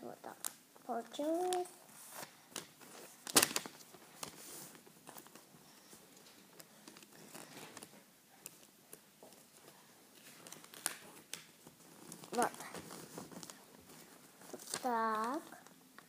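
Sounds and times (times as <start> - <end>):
paper rustling and crinkling: 1.4 - 15.8.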